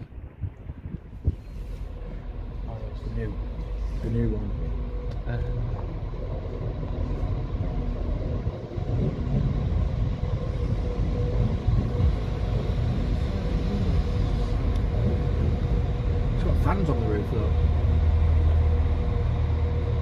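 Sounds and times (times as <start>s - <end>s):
faint steady hum: 0.0s - 20.0s
train rumble: 0.0s - 20.0s.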